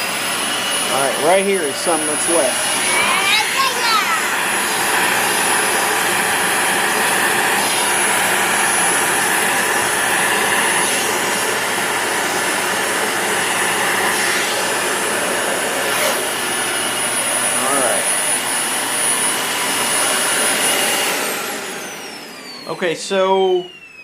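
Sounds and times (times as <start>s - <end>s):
vacuum cleaner running with whine: 0.0s - 24.0s.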